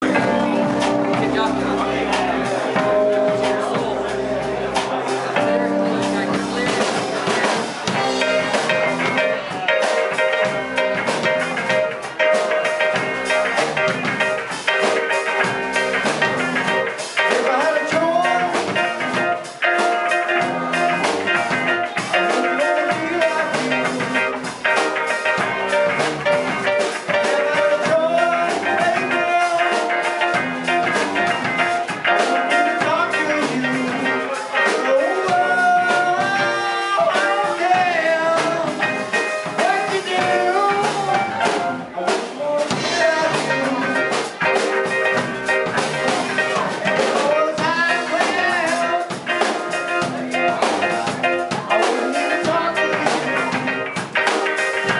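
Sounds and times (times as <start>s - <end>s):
live rock band playing: 0.0s - 54.9s
sliding lead guitar line: 0.0s - 54.9s.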